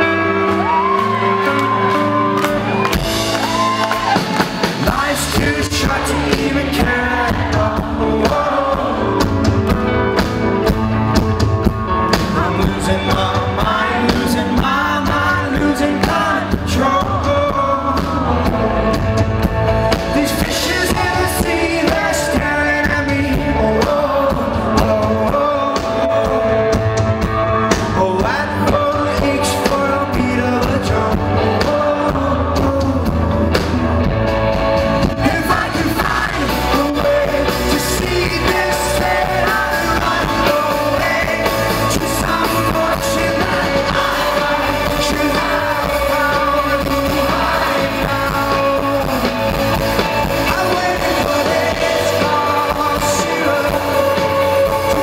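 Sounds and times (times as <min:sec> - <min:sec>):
lead vocals singing: 0:00.0 - 0:33.8, 0:34.8 - 0:55.0
rock band playing live: 0:00.0 - 0:55.0.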